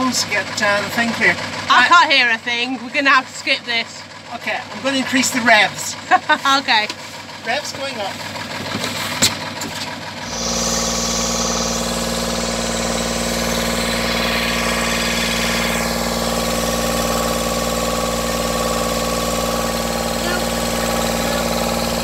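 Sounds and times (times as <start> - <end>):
marine diesel engine running: 0.0 - 22.0.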